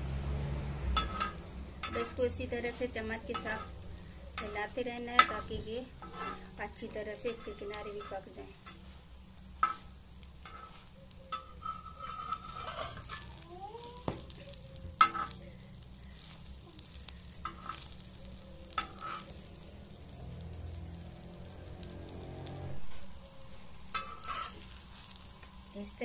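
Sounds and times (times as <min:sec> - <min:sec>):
sandwich sizzling: 0:00.0 - 0:26.0
metal spatula scraping griddle: 0:00.8 - 0:25.5.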